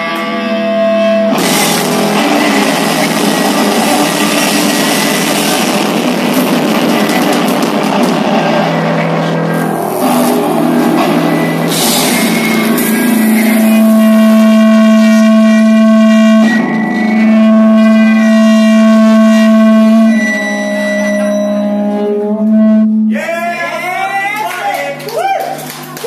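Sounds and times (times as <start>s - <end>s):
crowd cheering: 0.0s - 18.7s, 23.1s - 26.0s
electric guitar feedback drone: 0.0s - 24.2s.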